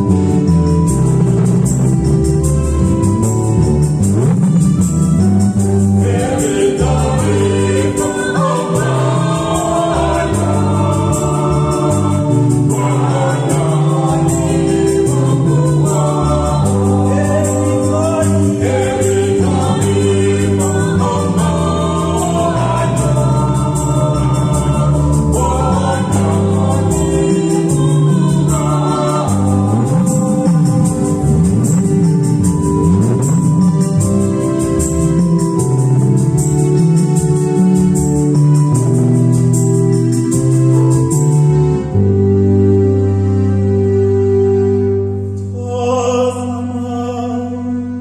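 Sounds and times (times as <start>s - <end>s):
electric bass guitar: 0.0s - 45.3s
keyboard organ tone: 0.0s - 48.0s
group singing in harmony: 4.7s - 40.5s, 45.4s - 48.0s.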